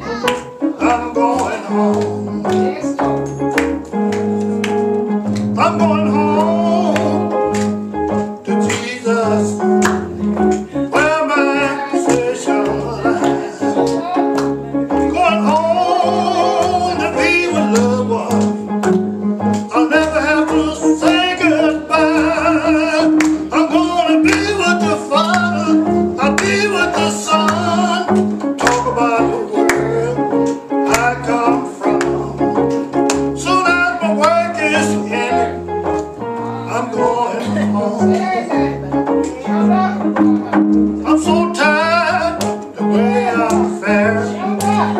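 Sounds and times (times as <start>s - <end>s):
person singing with vibrato: 0.0s - 3.0s, 5.6s - 7.5s, 10.8s - 14.3s, 15.0s - 18.4s, 19.7s - 35.8s, 36.4s - 44.9s
guitar accompaniment: 0.0s - 44.9s.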